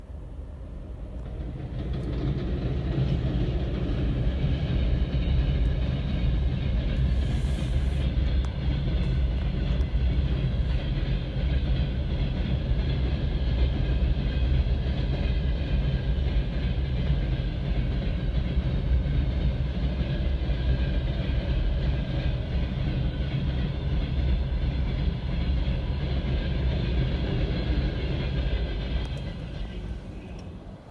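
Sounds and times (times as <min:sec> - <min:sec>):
freight train passing at speed: 0:00.0 - 0:30.9
wheels clickety-clack: 0:01.1 - 0:30.6.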